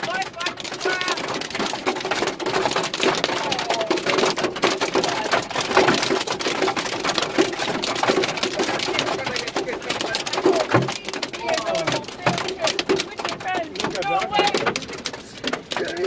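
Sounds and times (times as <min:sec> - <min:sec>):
hail and rain drumming on car roof: 0:00.0 - 0:16.0.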